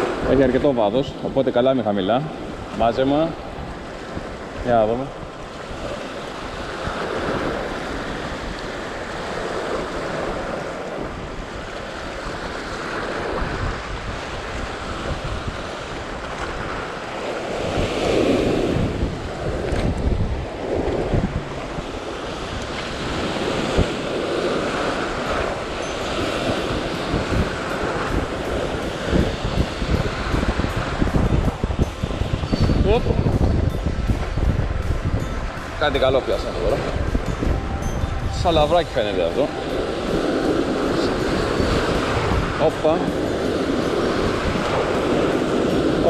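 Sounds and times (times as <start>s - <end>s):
waves breaking on rocks: 0.0s - 46.0s
wind rumbling on microphone: 0.0s - 46.0s.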